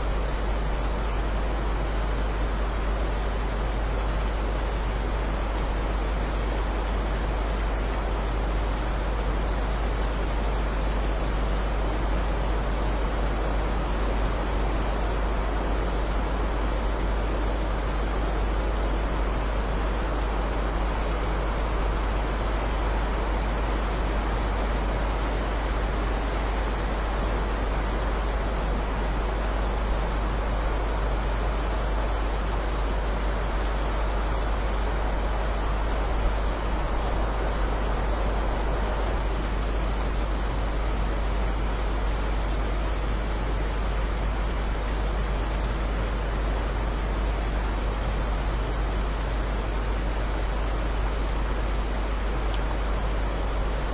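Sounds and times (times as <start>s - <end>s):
heavy rain hissing: 0.0s - 53.9s.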